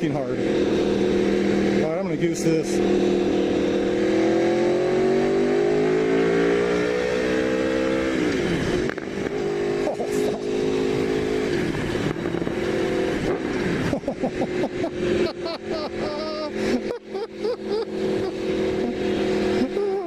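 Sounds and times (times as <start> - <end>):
motorcycle engine pulling hard: 0.0 - 20.0.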